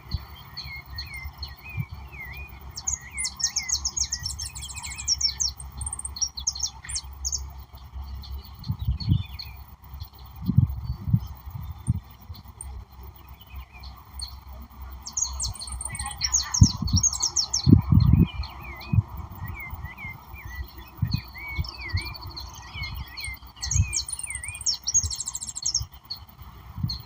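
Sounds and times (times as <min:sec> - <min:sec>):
songbirds twittering: 0:00.0 - 0:27.0.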